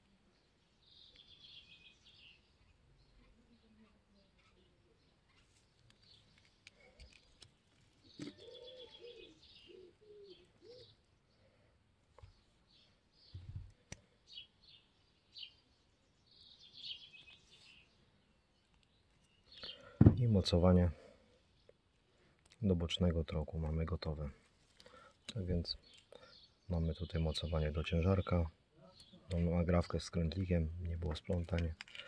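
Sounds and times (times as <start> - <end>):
faint birds chirping: 0.0 - 32.0.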